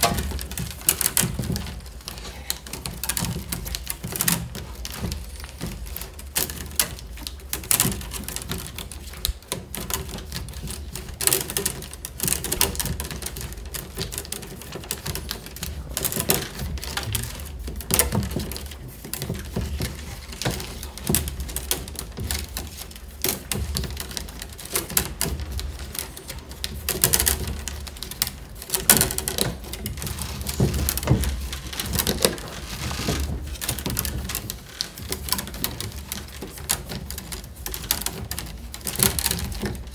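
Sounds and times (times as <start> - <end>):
rustles: 0.0 - 39.9
willow rods creaking and clicking: 0.0 - 39.9.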